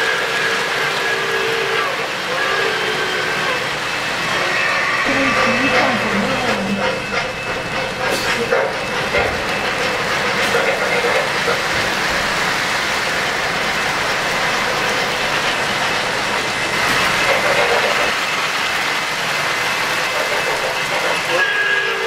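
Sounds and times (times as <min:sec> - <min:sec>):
model train wheels rattling on rails: 0:00.0 - 0:22.0.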